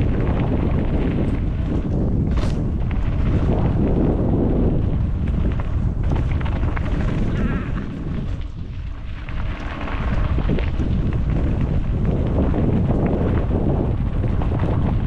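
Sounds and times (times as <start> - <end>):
bike knocking and rattling: 0.0 - 15.0
tyres rumbling on dirt: 0.0 - 15.0
wind buffeting microphone: 0.0 - 15.0.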